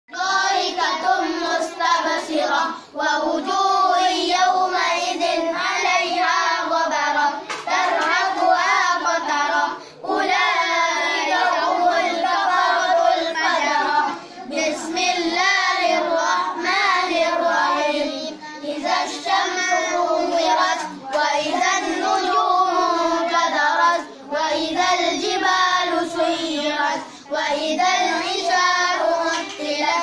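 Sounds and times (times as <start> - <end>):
children chanting verses: 0.1 - 30.0.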